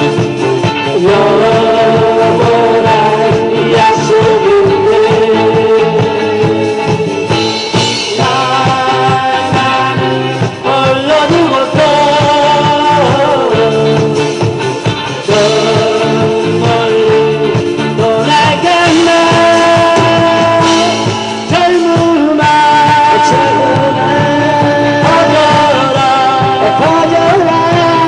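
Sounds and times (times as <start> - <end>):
amplified instrumental accompaniment: 0.0 - 28.0
man singing into a microphone: 0.0 - 28.0.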